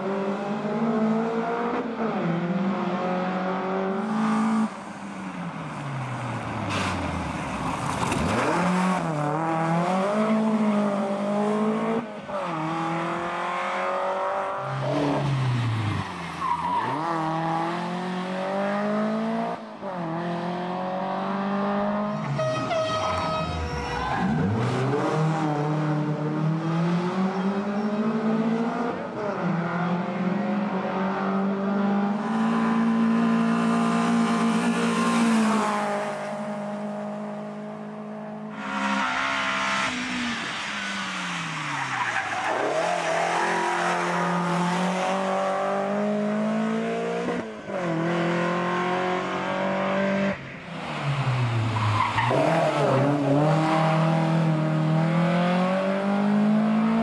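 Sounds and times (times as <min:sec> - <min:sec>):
rally car engine revving: 0:08.0 - 0:22.4, 0:23.3 - 0:57.0.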